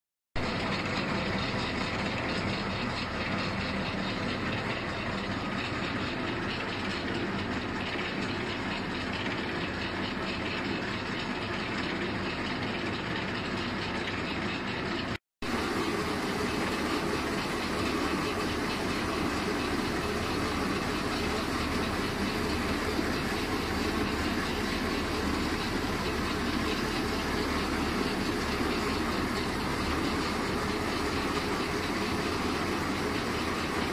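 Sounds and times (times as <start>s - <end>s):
roll forming machine running: 0.4s - 33.9s.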